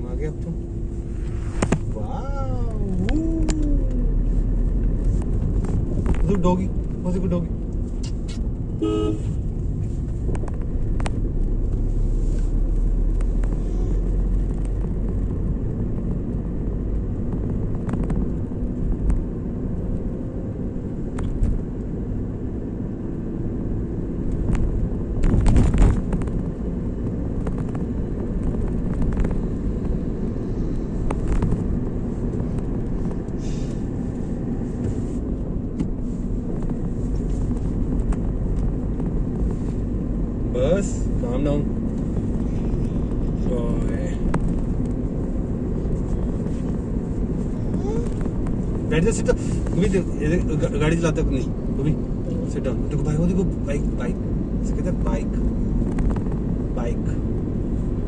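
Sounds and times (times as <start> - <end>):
road and engine rumble in car: 0.0 - 58.0.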